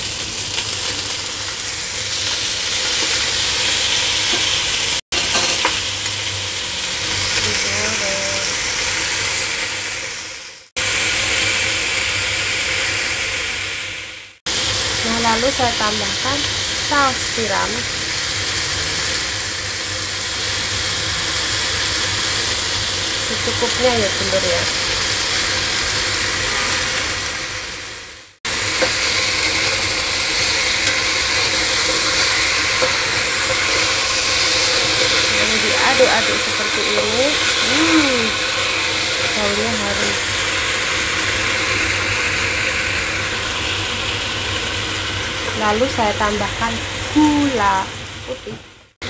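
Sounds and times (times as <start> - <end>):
food sizzling in hot oil: 0.0 - 49.0.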